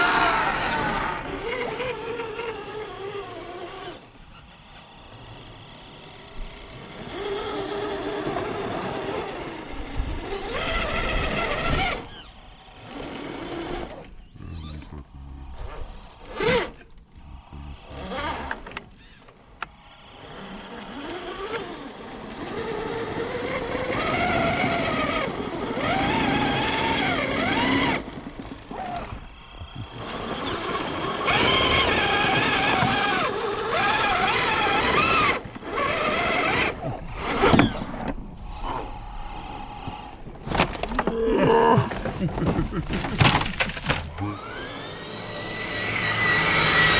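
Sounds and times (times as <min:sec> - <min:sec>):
electric motors and gearboxes whining: 0:00.0 - 0:46.9.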